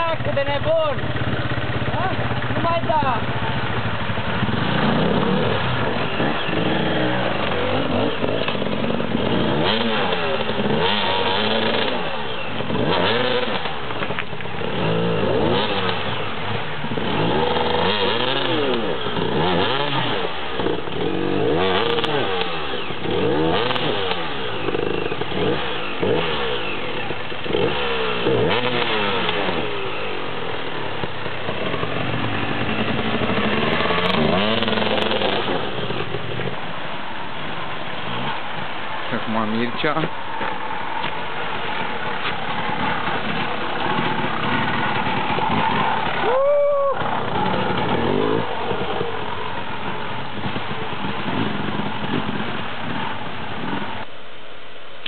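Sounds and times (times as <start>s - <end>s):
motorcycle engines revving: 0.0s - 54.3s.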